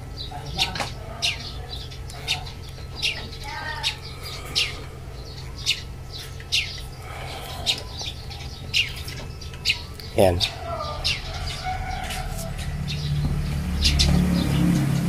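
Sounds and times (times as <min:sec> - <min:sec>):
bird chirping: 0:00.0 - 0:15.0
low steady hum: 0:00.0 - 0:15.0.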